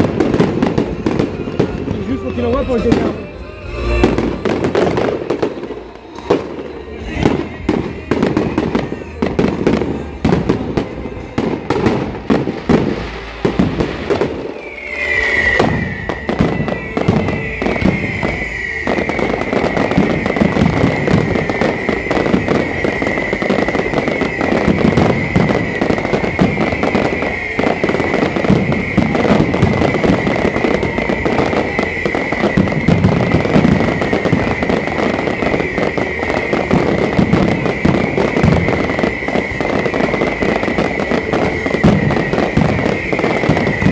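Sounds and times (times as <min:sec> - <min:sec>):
fireworks bangs and crackles: 0:00.0 - 0:43.9
high whistle-like tone: 0:00.0 - 0:43.9.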